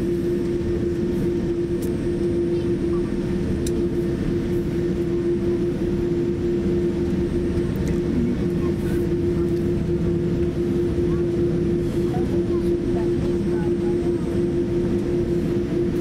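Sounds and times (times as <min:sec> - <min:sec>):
aircraft cabin low rumble: 0:00.0 - 0:16.0
constant hum: 0:00.0 - 0:16.0.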